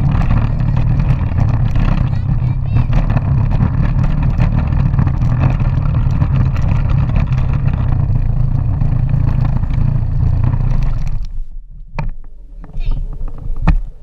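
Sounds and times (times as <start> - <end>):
electric drive drone: 0.0 - 11.3
plastic wheels rattling on pavement: 0.0 - 11.3.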